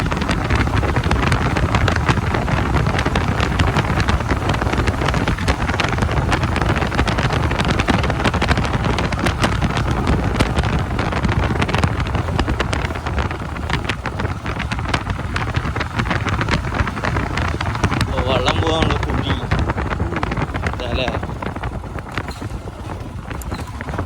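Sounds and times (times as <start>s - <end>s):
low motorcycle rumble: 0.0s - 24.0s
wind buffeting microphone: 0.0s - 24.0s.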